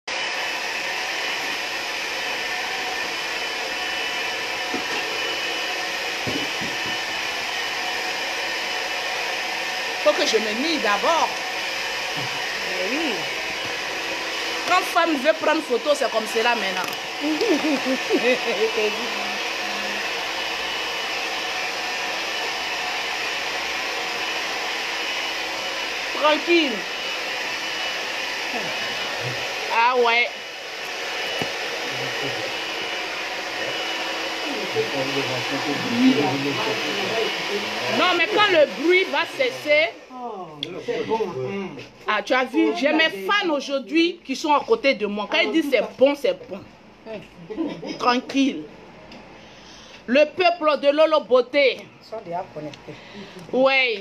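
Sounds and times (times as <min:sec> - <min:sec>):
hair dryer running: 0:00.1 - 0:51.9, 0:52.6 - 0:54.0.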